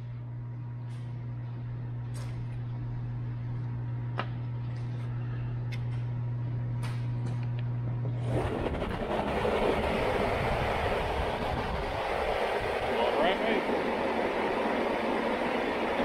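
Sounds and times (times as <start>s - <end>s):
cooling fan rushing air: 0.0s - 16.0s.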